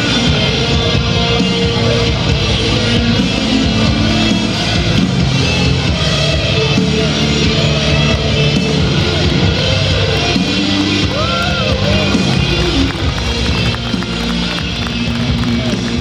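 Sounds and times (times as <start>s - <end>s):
rock music with electric guitar: 0.0s - 16.0s.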